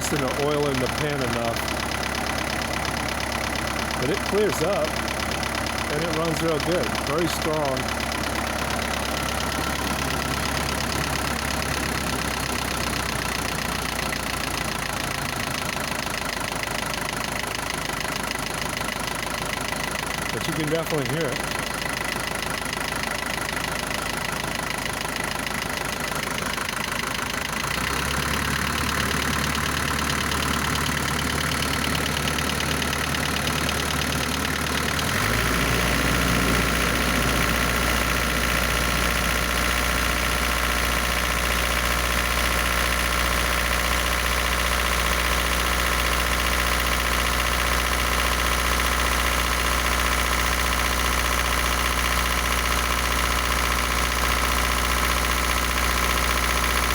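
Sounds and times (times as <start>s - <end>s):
diesel engine idling: 0.0s - 56.9s
engine rattling tap: 0.0s - 56.9s.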